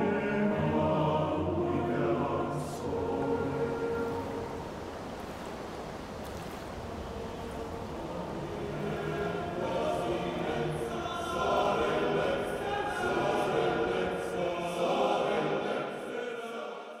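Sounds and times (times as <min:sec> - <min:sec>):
choir singing held chords: 0:00.0 - 0:05.2, 0:07.0 - 0:17.0.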